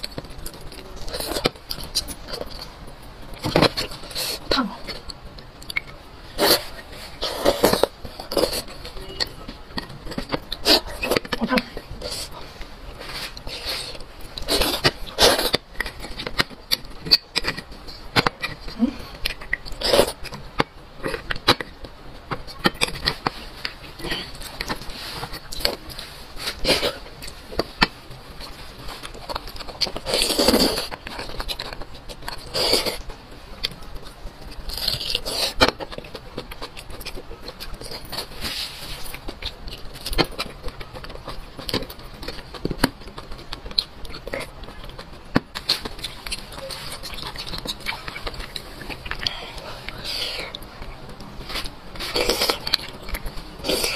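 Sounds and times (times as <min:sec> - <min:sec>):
chewing: 0:00.0 - 0:53.9.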